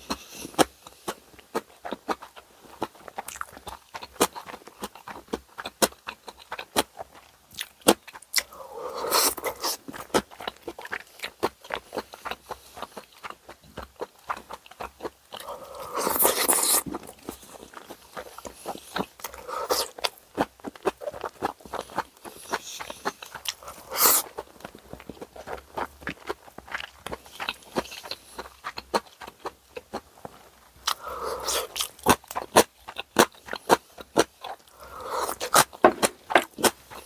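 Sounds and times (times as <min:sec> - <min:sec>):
chewing with wet mouth clicks: 0:00.0 - 0:37.0.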